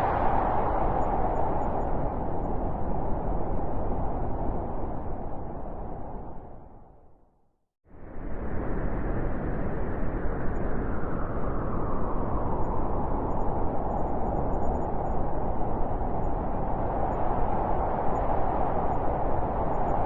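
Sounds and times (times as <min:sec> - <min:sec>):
blizzard wind howling: 0:00.0 - 0:07.3, 0:07.9 - 0:20.0.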